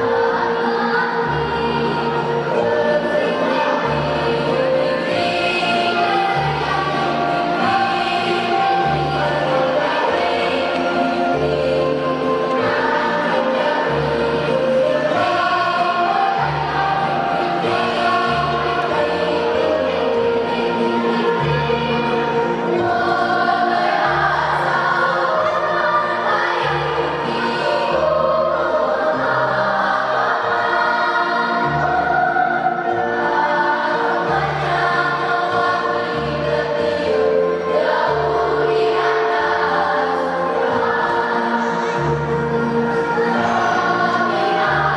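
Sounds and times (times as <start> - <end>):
children's choir singing: 0.0 - 44.9
instrumental accompaniment: 0.0 - 44.9.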